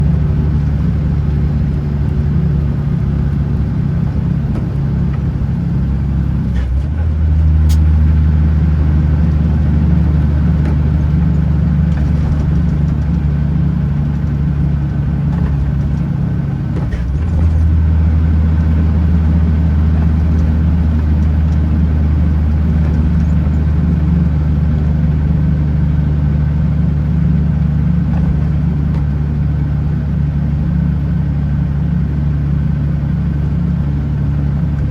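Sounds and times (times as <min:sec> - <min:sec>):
diesel truck engine droning: 0:00.0 - 0:34.9.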